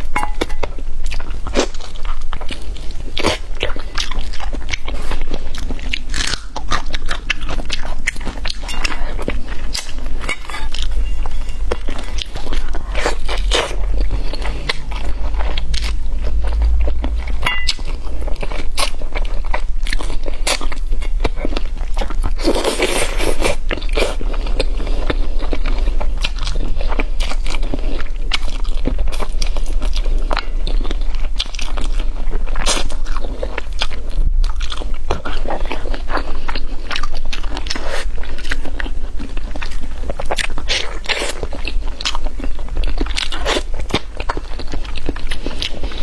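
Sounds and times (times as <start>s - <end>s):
crunchy chewing and biting: 0.0s - 46.0s
steady low hum: 0.0s - 46.0s.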